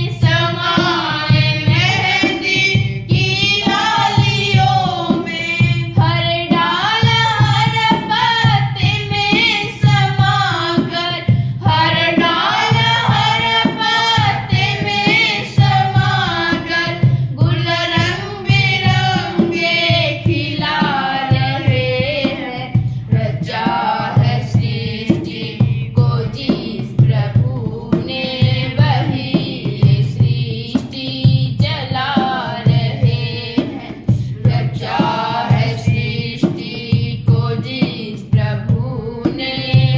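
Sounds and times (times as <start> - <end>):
steady drum beat: 0.0 - 39.9
woman singing: 0.0 - 39.9.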